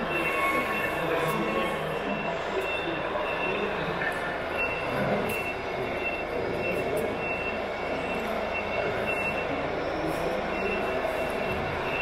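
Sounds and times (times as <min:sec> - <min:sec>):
construction machines running: 0:00.0 - 0:12.0
reversing alarm beeping: 0:00.0 - 0:12.0.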